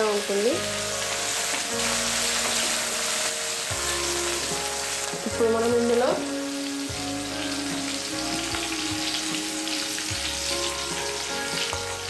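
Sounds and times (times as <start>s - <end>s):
held musical tones: 0.0s - 12.0s
oil sizzling in a frying pan: 0.0s - 12.0s.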